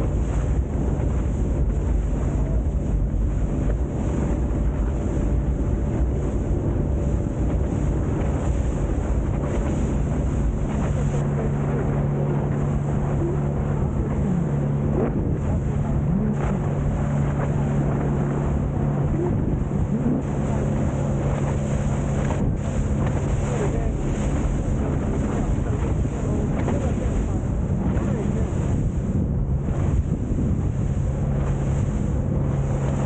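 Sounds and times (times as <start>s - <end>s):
boat engine running: 0.0s - 33.0s
water rushing: 0.0s - 33.0s
wind buffeting microphone: 0.0s - 33.0s.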